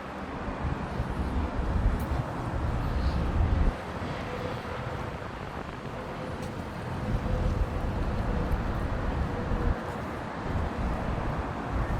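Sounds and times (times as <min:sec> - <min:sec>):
wind buffeting microphone: 0:00.4 - 0:11.9.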